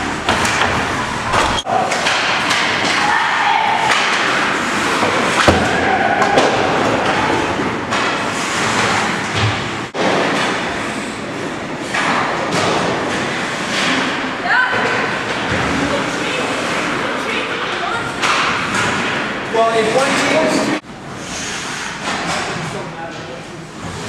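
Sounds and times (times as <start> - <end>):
sticks and pucks hitting boards: 0.1 - 20.8, 21.7 - 23.2.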